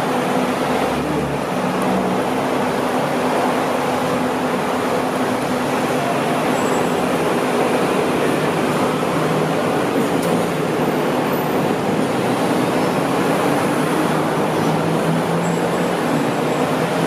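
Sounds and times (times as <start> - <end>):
busy street traffic noise: 0.0 - 17.0.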